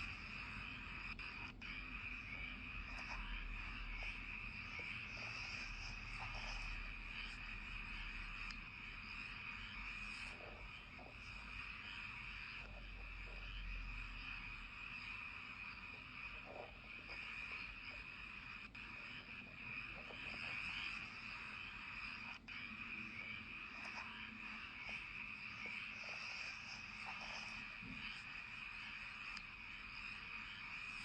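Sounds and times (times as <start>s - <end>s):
frogs calling: 0.0s - 31.0s
insects trilling: 0.0s - 31.0s.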